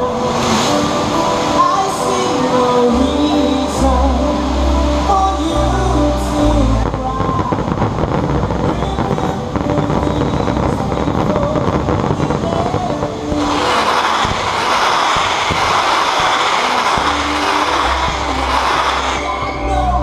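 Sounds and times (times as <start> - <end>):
faint music: 0.0 - 20.0
fireworks crackling and popping: 0.0 - 20.0.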